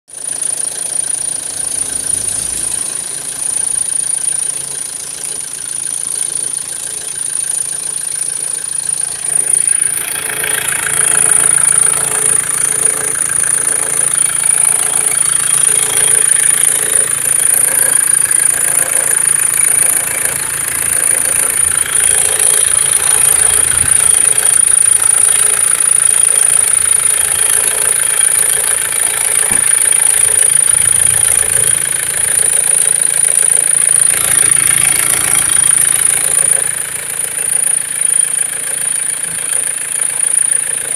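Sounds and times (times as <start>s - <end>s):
diesel engine idling: 0.1s - 40.9s
pulsing squeal: 0.1s - 40.9s.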